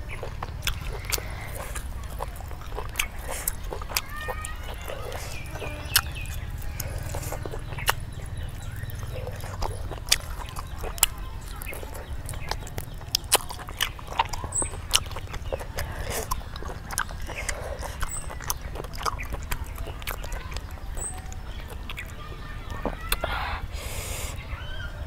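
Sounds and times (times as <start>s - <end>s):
chewing with wet mouth clicks: 0.0s - 24.4s.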